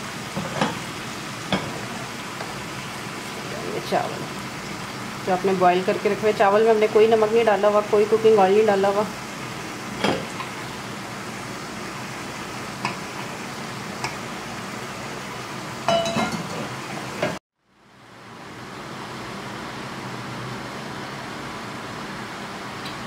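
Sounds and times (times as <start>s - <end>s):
food frying in a wok: 0.0s - 23.0s.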